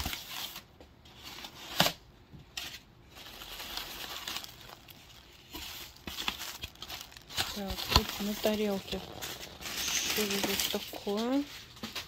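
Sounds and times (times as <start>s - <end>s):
packing paper rustling and crinkling: 0.0s - 12.0s.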